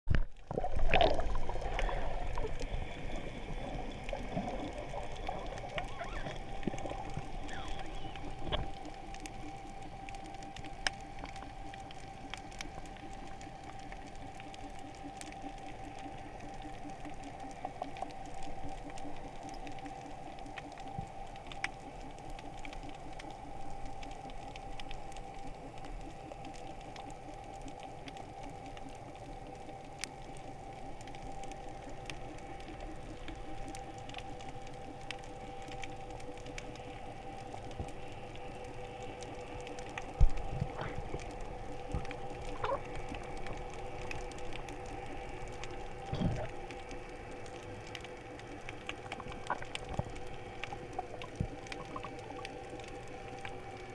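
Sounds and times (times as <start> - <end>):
faint clicks and crackles: 0.1 - 53.9
muffled underwater hum: 0.1 - 53.9.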